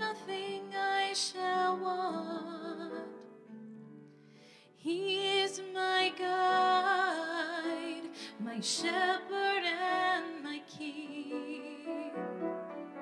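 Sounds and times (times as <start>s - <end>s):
woman singing with vibrato: 0.0s - 3.2s, 4.8s - 12.2s.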